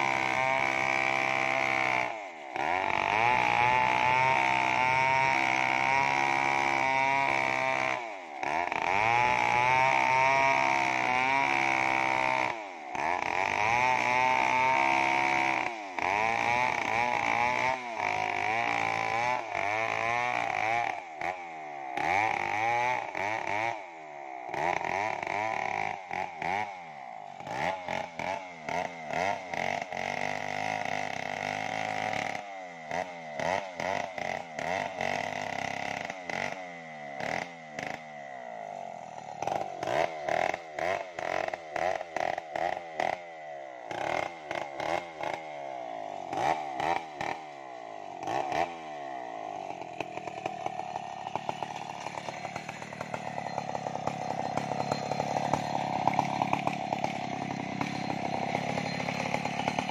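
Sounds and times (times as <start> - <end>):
chainsaw cutting log under load: 0.0 - 59.9.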